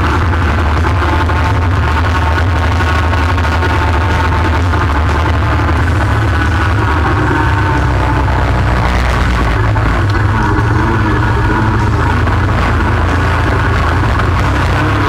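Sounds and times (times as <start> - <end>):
high whine: 0.0 - 15.0
vehicle engine drone: 0.0 - 15.0.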